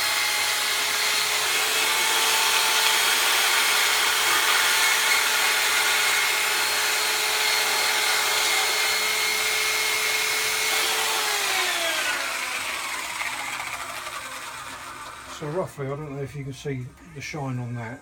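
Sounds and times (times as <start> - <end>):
power tool polishing metal: 0.0 - 15.7.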